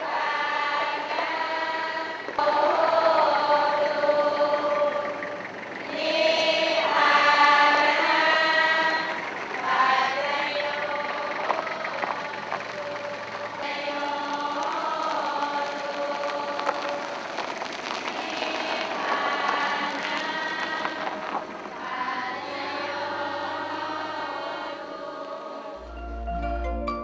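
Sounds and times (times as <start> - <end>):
group chanting in unison: 0.0 - 5.2, 5.8 - 17.0, 18.3 - 25.8.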